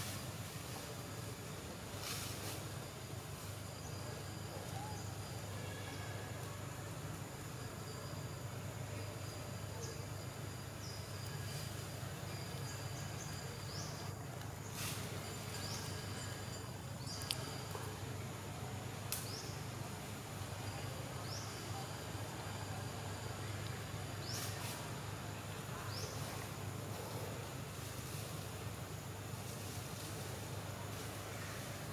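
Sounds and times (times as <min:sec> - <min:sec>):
steady insect drone: 0:00.0 - 0:31.9.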